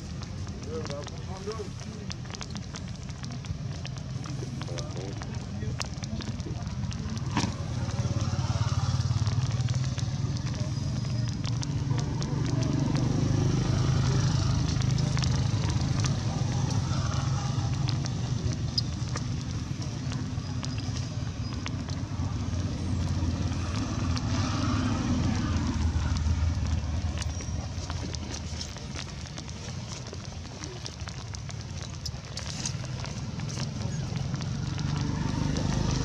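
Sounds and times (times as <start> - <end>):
clicks and crackles: 0.0 - 36.0
engine humming: 0.0 - 36.0.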